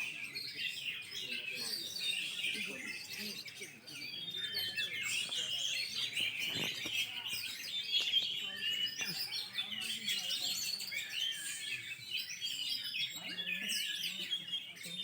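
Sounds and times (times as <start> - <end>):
birds singing: 0.0 - 15.0
faint murmur of voices: 0.0 - 15.0.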